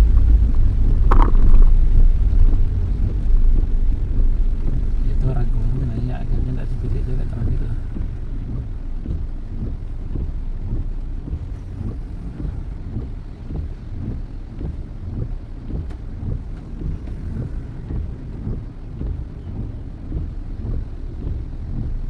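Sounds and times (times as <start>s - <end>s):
car road and engine rumble: 0.0s - 22.0s
wind buffeting microphone: 0.0s - 22.0s.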